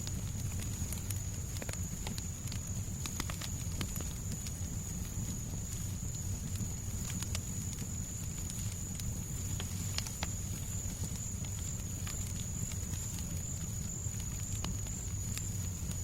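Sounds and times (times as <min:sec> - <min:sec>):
fireplace crackling and popping: 0:00.0 - 0:16.0.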